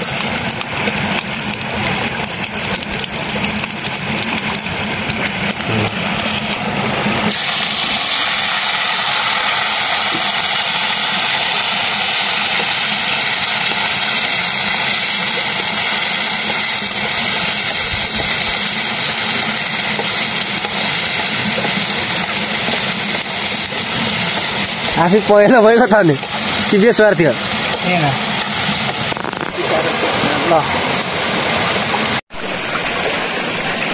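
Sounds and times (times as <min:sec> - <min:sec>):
crabs sizzling in hot oil: 0:00.0 - 0:33.9.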